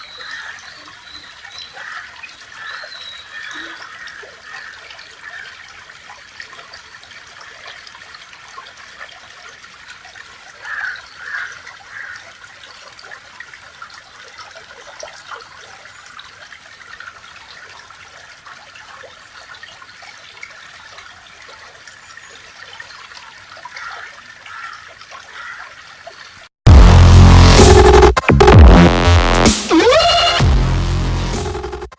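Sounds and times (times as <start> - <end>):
water trickling: 0.0 - 26.5.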